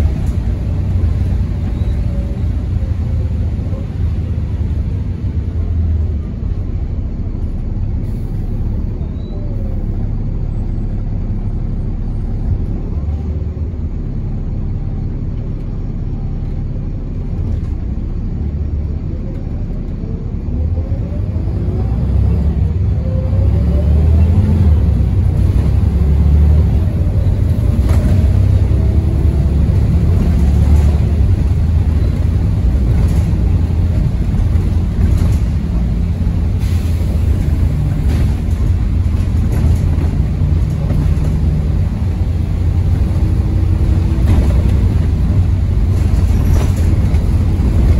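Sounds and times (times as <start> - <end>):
bus body rattles: 0.0 - 20.5, 24.0 - 47.9
bus diesel engine rumble: 0.0 - 47.9.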